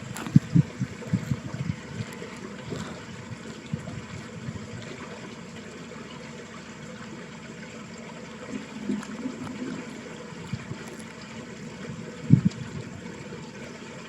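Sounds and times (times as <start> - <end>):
water gurgling: 0.0 - 14.0
water running in a ditch: 0.0 - 14.0.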